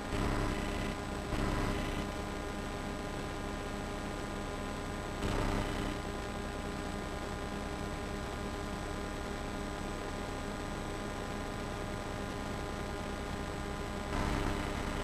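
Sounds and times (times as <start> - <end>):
low electrical hum and buzz: 0.0 - 15.0
tape hiss: 0.0 - 15.0.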